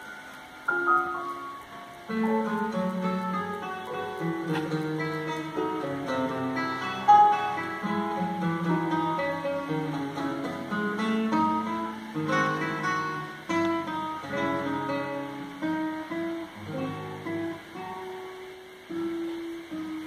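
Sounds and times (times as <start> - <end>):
classical guitar: 0.0 - 20.0
grand piano: 0.0 - 20.0.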